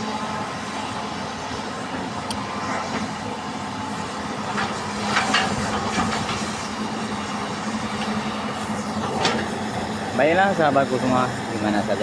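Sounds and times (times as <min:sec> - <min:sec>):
excavator diesel engine humming: 0:00.0 - 0:12.0.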